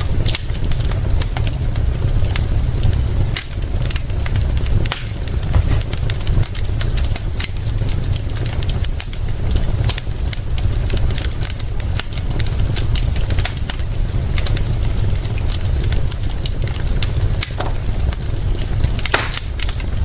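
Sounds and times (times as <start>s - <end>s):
low rumble and hiss of fire: 0.0s - 20.0s
wood fire crackling: 0.0s - 20.0s.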